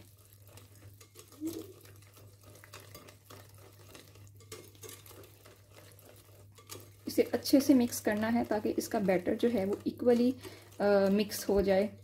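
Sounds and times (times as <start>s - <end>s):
utensil scraping glass bowl: 0.0s - 12.0s.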